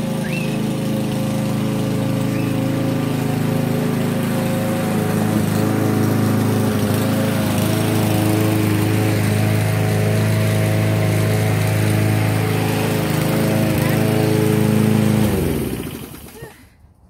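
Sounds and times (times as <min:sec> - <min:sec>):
lawn mower running: 0:00.0 - 0:16.6.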